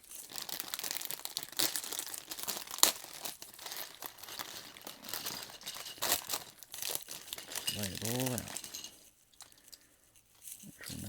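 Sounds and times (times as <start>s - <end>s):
plastic bag tearing and crinkling: 0.0s - 8.9s.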